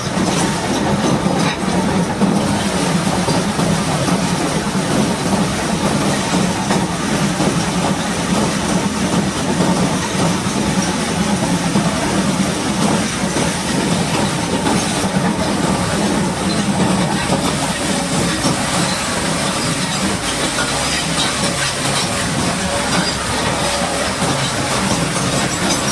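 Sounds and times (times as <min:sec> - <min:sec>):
heavy mechanical drone: 0:00.0 - 0:25.9
high-pressure water spray: 0:01.8 - 0:25.9.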